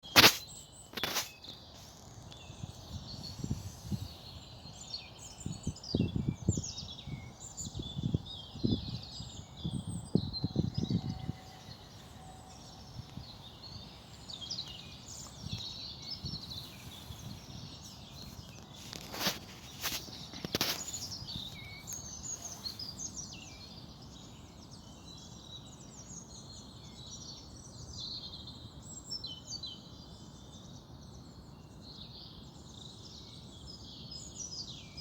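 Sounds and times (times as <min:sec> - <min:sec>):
songbirds singing and chirping: 0:00.0 - 0:35.0.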